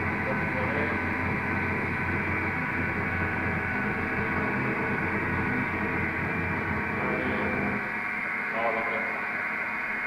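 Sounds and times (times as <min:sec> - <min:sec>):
electric motor hum and whine: 0:00.0 - 0:10.0.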